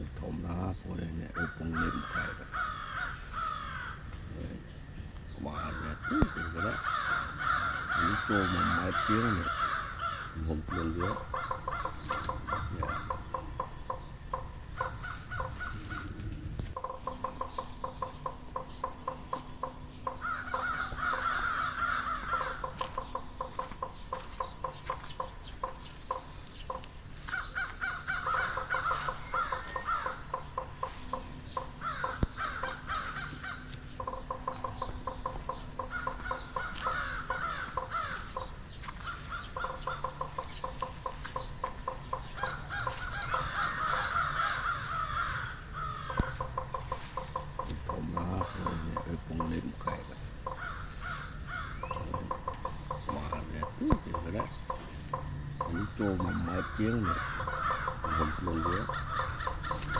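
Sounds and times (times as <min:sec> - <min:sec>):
frog croaking: 0:00.0 - 0:59.9
higher wavering frog calls: 0:00.0 - 0:59.9.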